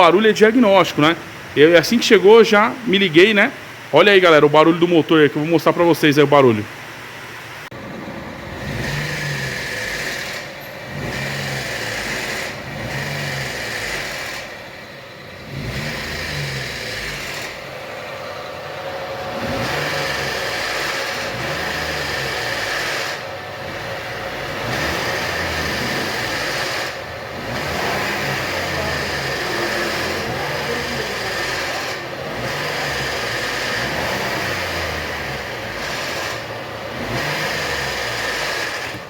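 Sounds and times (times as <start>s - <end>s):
car engine running noisily: 0.0s - 39.0s.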